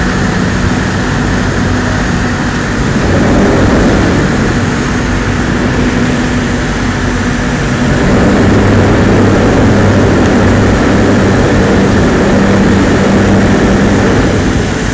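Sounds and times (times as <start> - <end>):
churning water: 0.0 - 14.9
heavy diesel engine running: 0.0 - 14.9.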